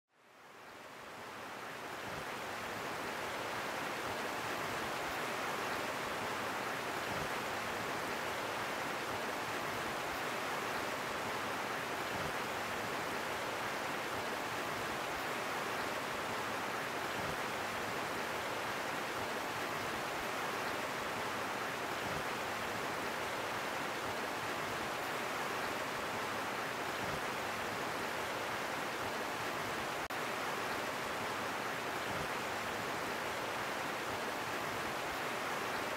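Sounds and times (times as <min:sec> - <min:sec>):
river water rushing over rocks: 0:00.2 - 0:35.9.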